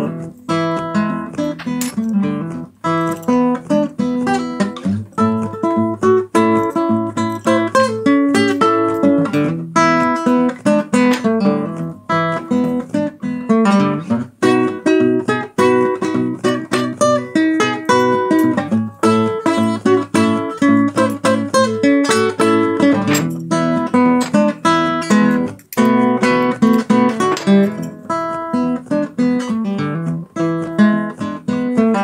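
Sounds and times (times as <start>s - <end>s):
acoustic guitar plucked notes: 0.0s - 32.0s.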